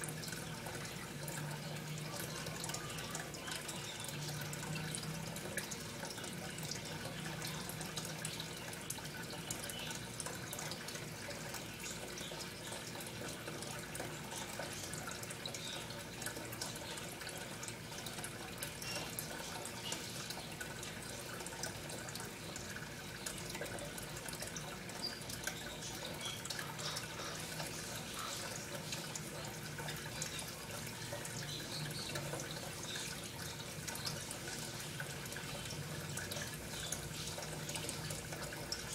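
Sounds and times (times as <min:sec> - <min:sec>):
water trickling with bubbling: 0:00.0 - 0:38.9.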